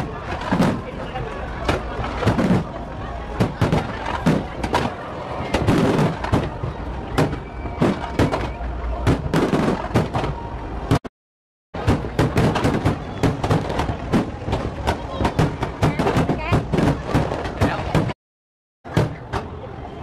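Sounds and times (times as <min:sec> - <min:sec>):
fireworks bangs and crackles: 0:00.0 - 0:11.0, 0:11.8 - 0:18.2, 0:18.9 - 0:19.5.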